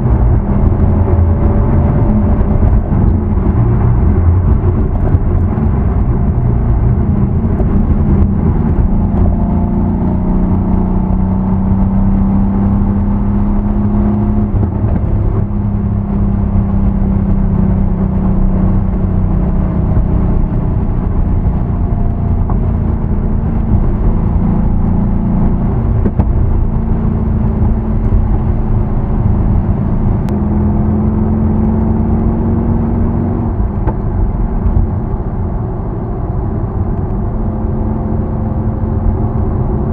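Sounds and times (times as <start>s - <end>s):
car engine low drone: 0.0s - 39.9s.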